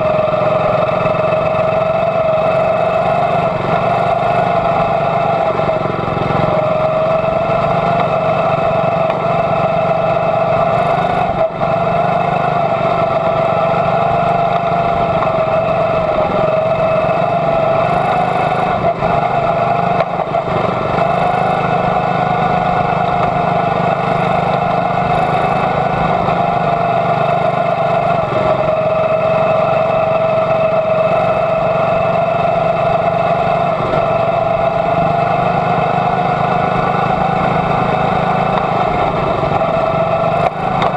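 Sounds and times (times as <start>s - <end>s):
small engine running hard: 0.0s - 40.9s.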